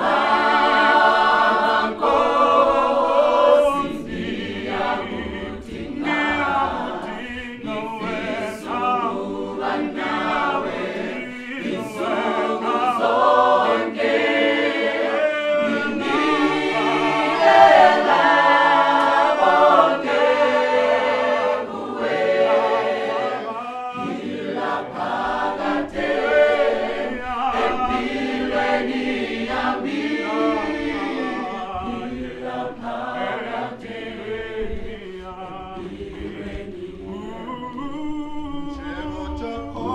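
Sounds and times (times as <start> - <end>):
choir singing a cappella gospel: 0.0 - 39.9.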